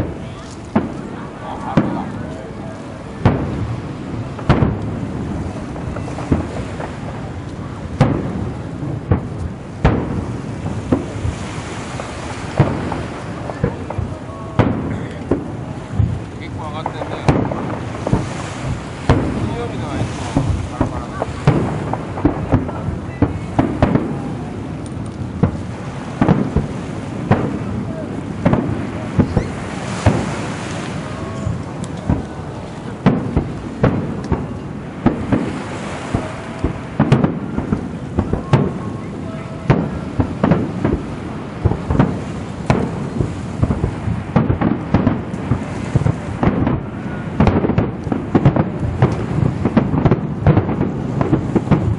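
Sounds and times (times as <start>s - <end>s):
firework shells bursting: 0.0s - 51.9s
steady background hiss: 0.0s - 51.9s.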